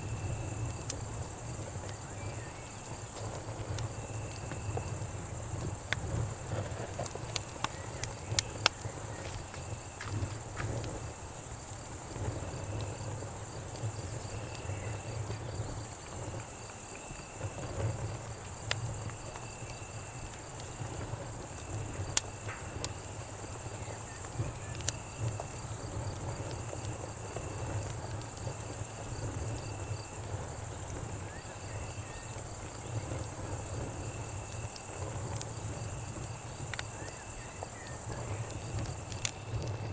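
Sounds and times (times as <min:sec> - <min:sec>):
campfire crackling and popping: 0:00.0 - 0:39.9
cicadas buzzing: 0:00.0 - 0:39.9
crickets chirping: 0:00.0 - 0:39.9.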